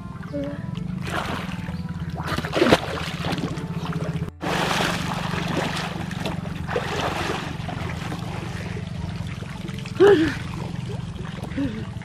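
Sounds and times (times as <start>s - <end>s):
steady low drone: 0.0s - 12.0s
water splashing and sloshing: 0.0s - 12.0s.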